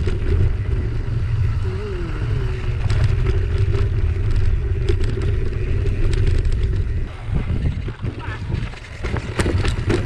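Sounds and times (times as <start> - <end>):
steady hum: 0.0 - 8.5
bike rattling over rough trail: 0.0 - 10.0
wind rumble on microphone: 0.0 - 10.0.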